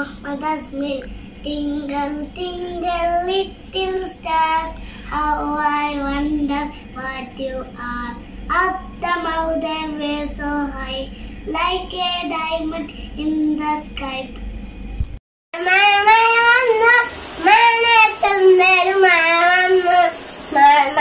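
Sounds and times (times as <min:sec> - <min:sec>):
boy singing: 0:00.0 - 0:14.3, 0:15.6 - 0:21.0.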